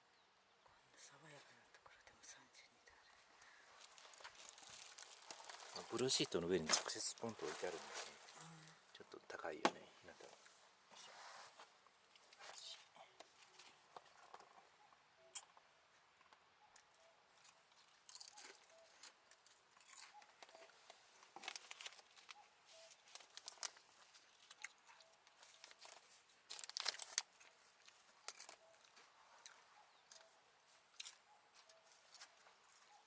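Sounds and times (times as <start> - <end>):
rustling and crinkling of handling: 3.2 - 14.8, 17.3 - 33.0.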